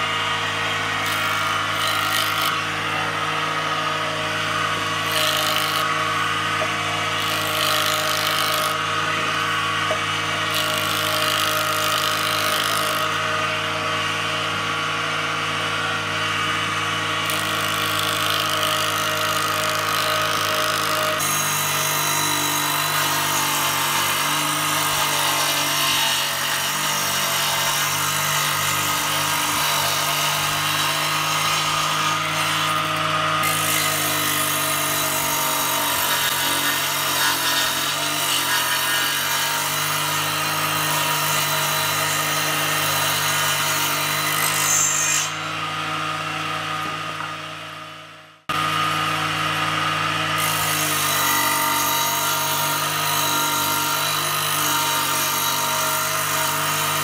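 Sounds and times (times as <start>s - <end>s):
bench power saw cutting board: 0.0s - 57.0s.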